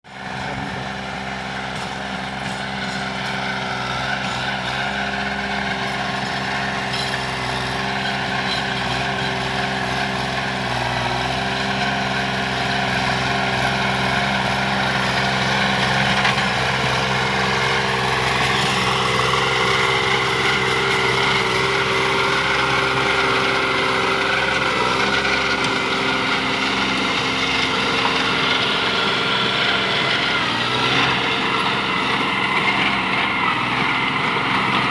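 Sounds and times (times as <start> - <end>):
rotary tiller cutting plants: 0.1 - 34.9
tractor diesel engine running: 0.1 - 34.9.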